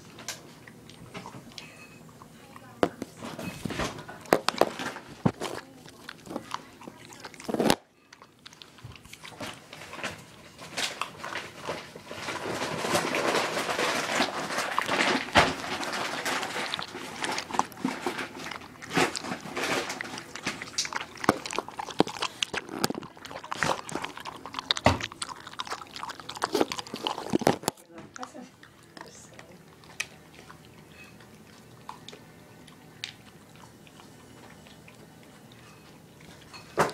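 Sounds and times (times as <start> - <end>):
puppy crunching food: 0.0 - 36.9.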